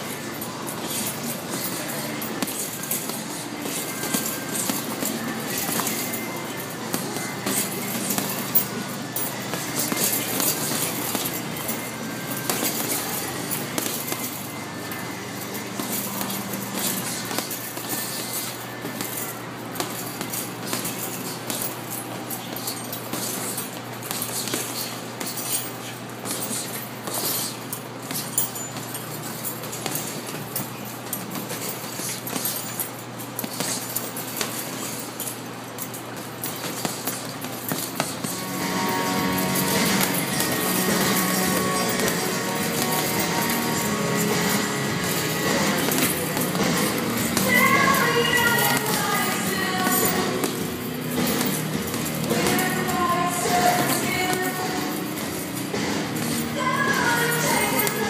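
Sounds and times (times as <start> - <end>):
chains clinking and rattling: 0.0 - 58.0
gloves punching heavy bags: 0.0 - 58.0.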